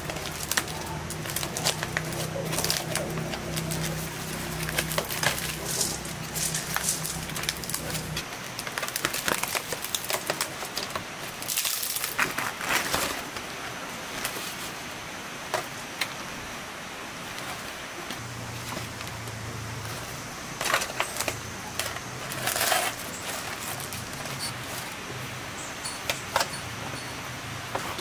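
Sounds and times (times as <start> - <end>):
aluminium foil crinkling: 0.0 - 14.8, 17.3 - 25.0.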